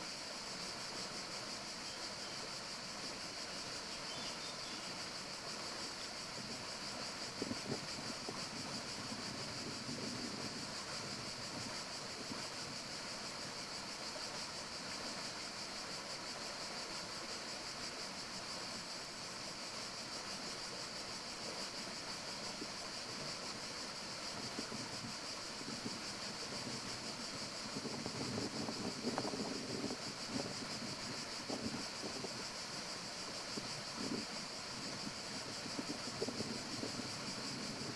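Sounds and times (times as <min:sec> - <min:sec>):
breeze rustling leaves: 0:00.0 - 0:37.9
high-pitched hiss: 0:00.0 - 0:37.9.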